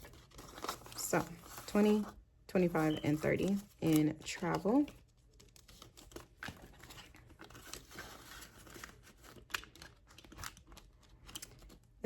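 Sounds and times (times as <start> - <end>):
paper banknotes rustling: 0.0 - 12.0.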